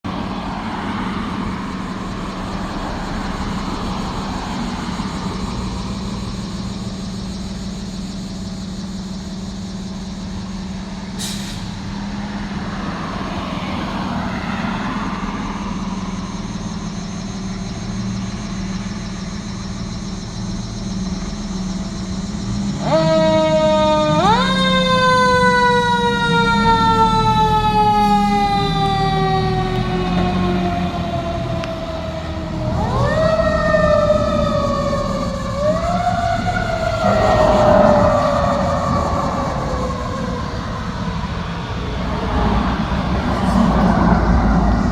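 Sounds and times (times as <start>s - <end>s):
fire engine engine drone: 0.0s - 44.9s
fire engine siren: 0.0s - 44.9s.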